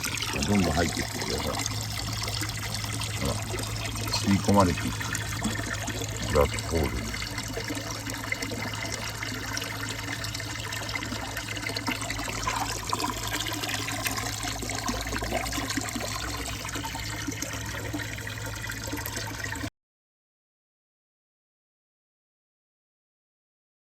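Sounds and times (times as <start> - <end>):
water running and trickling: 0.0 - 19.7.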